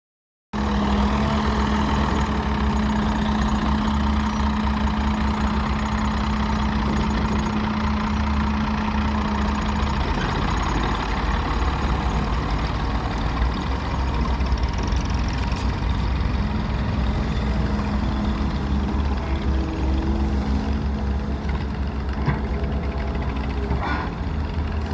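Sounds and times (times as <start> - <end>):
diesel engines running: 0.6 - 24.9.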